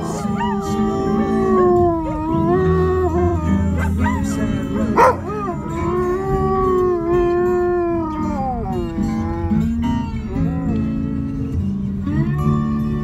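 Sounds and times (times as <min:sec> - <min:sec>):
dog howling: 0:00.0 - 0:11.1
bluesy guitar music: 0:00.0 - 0:13.0.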